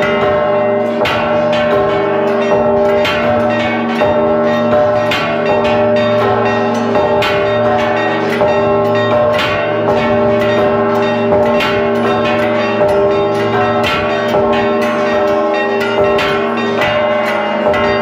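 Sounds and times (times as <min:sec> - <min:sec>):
church bells ringing rapidly: 0:00.0 - 0:18.0.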